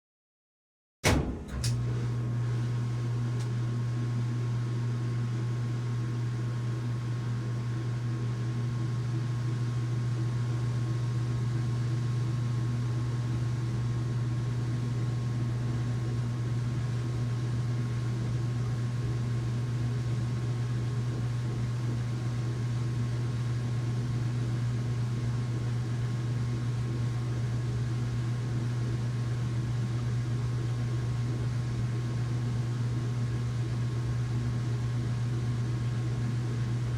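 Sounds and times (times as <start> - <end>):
washing machine humming: 1.0 - 36.9.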